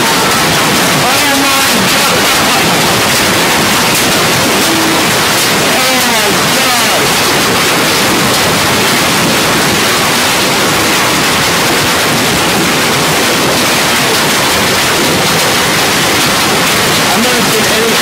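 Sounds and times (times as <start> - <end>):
heavy hail striking surfaces: 0.0 - 18.0
wind: 0.0 - 18.0.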